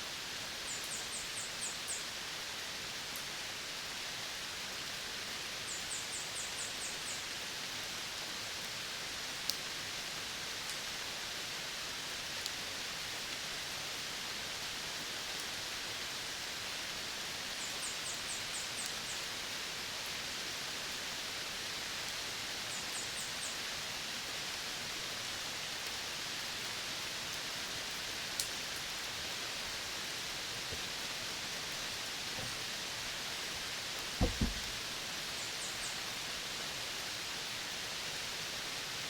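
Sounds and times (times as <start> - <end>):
forest ambience hiss: 0.0 - 39.0.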